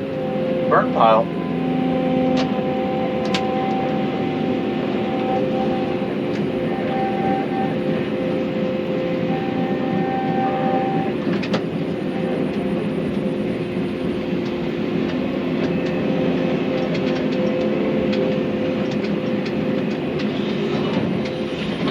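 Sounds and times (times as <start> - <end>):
tracks clanking and squeaking: 0.0 - 21.9.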